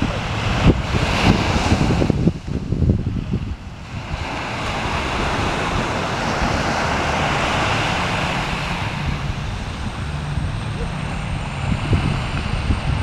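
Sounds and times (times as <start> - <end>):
ocean surf breaking: 0.0 - 13.0
wind rumbling on microphone: 0.0 - 13.0.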